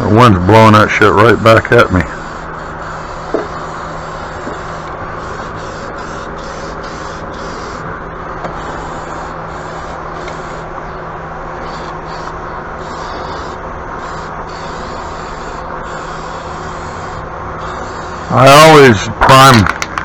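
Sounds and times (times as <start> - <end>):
steady low hum: 0.0 - 20.0
paint spray hissing: 0.4 - 10.7, 11.6 - 19.0.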